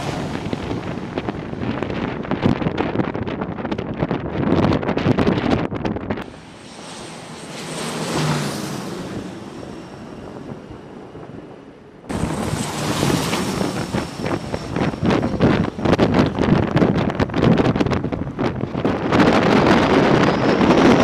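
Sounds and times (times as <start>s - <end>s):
high whine of aircraft engines: 0.0s - 21.0s
wind buffeting microphone: 0.0s - 21.0s.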